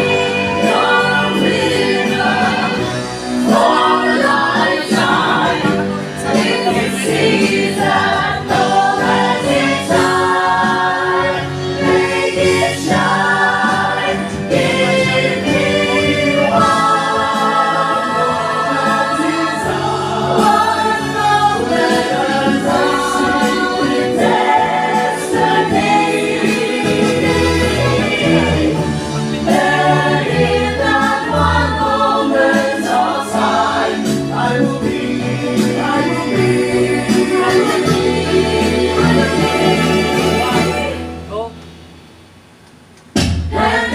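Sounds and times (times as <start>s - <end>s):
choir singing: 0.0s - 41.5s, 43.4s - 43.9s.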